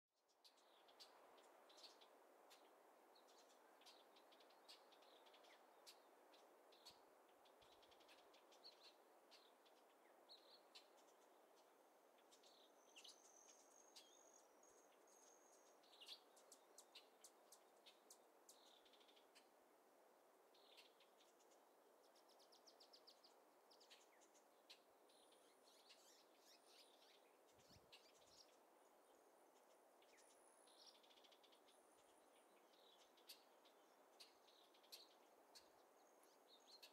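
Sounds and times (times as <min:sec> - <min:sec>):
small birds chirping: 0:00.2 - 0:36.9
soft background hiss: 0:00.2 - 0:36.9.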